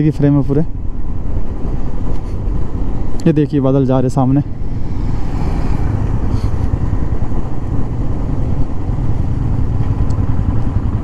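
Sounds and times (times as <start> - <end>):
motorcycle engine rumbling: 0.0 - 11.0
road noise: 0.0 - 11.0.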